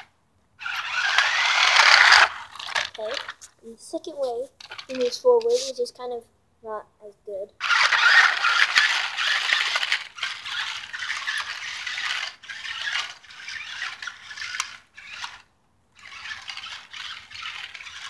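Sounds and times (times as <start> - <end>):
toy car motors whirring: 0.0 - 5.9, 7.6 - 18.0.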